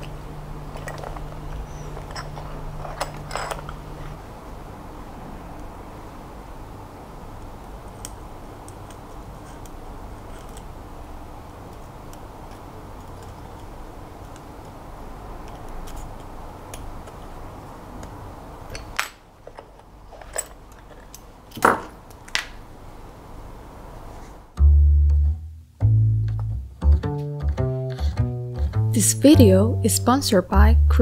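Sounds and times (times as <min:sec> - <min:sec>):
background hiss: 0:00.0 - 0:31.0.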